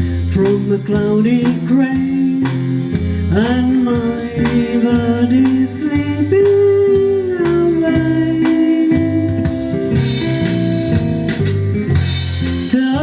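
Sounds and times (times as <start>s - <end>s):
swing band playing: 0.0s - 13.0s.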